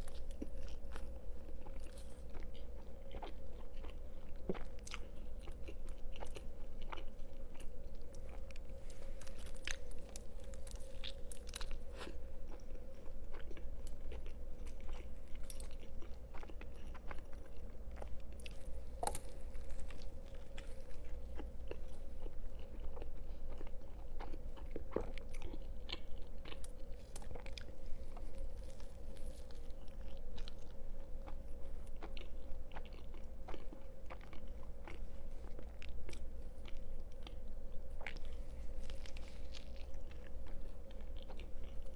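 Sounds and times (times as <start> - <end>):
faint hum: 0.0 - 41.9
person chewing crunchy food: 0.0 - 41.9.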